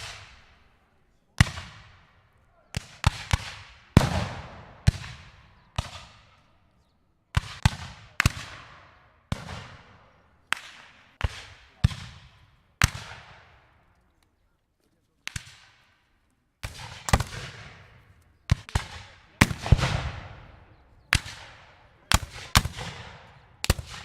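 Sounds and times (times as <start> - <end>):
musket shots echoing: 0.0 - 0.7, 1.4 - 6.4, 7.4 - 13.8, 16.6 - 24.0.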